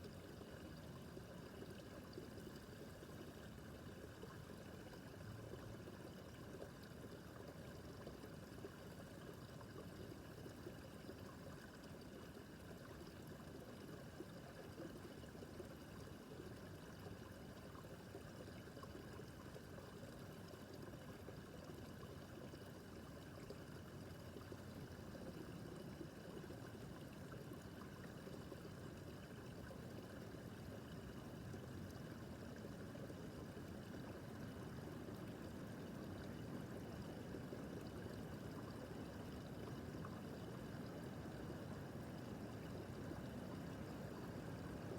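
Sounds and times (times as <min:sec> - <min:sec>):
brook babbling over stones: 0:00.0 - 0:44.9.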